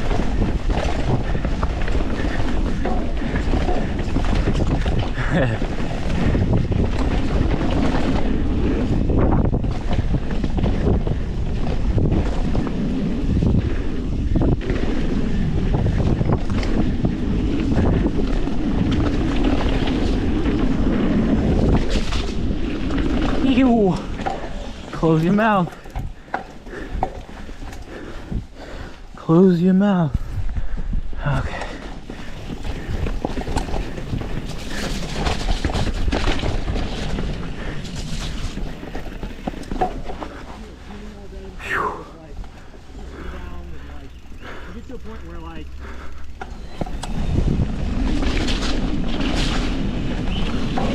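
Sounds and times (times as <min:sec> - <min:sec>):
bike clicks and rattles: 0:00.0 - 0:50.9
tyres rumbling on dirt: 0:00.0 - 0:50.9
wind buffeting microphone: 0:00.0 - 0:50.9.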